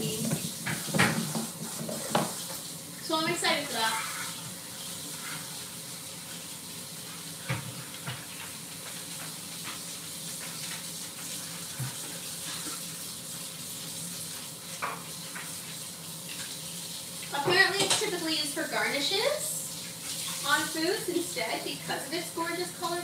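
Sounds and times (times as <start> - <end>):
faucet running into sink: 0.0 - 23.0.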